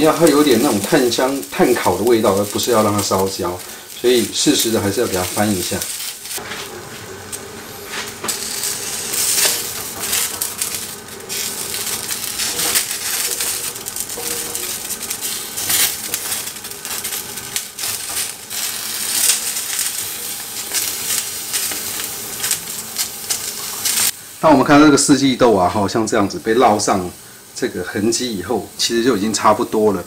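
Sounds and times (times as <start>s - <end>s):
green beans sizzling on grill pan: 0.0s - 30.0s.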